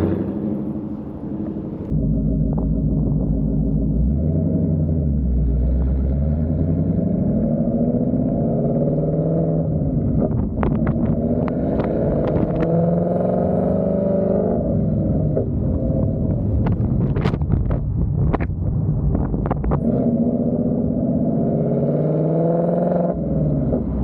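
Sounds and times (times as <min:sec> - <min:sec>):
car exhaust note: 0:00.0 - 0:21.7.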